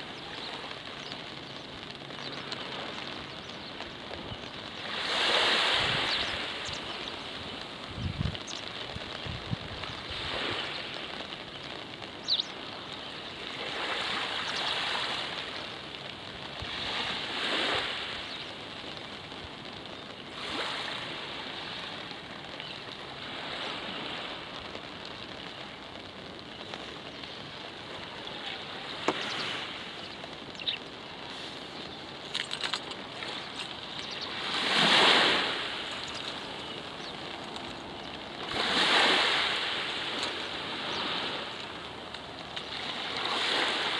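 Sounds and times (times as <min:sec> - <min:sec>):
steady hiss: 0:00.0 - 0:43.9
waves lapping on sand: 0:00.0 - 0:43.9.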